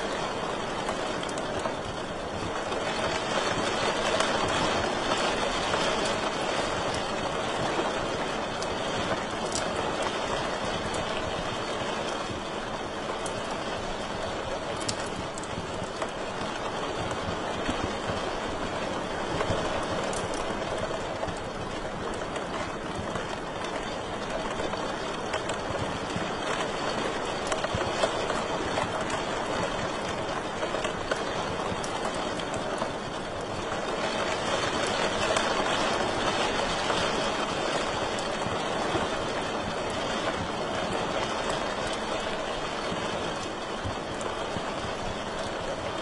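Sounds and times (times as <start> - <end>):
wood fire crackles and pops: 0.0 - 46.0.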